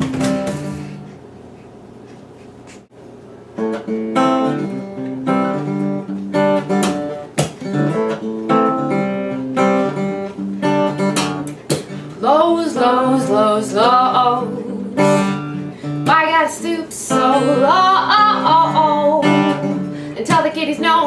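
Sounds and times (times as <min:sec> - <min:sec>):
acoustic guitar strumming chords: 0:03.6 - 0:16.4, 0:17.0 - 0:21.0.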